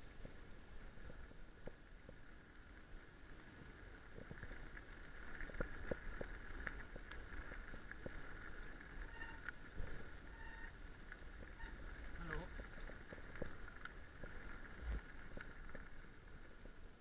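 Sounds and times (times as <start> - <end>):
bike tyre and drivetrain noise: 0.0 - 17.0
wind rumble on microphone: 0.0 - 17.0
bike clicks and rattles: 0.2 - 17.0.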